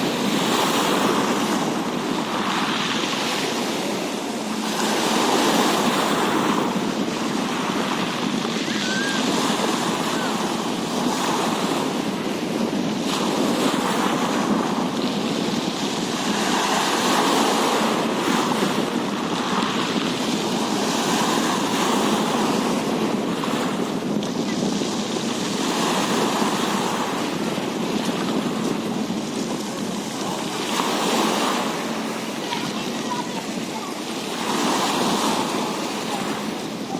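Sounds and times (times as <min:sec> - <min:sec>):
rushing water: 0:00.0 - 0:36.9
wind on microphone: 0:00.0 - 0:36.9.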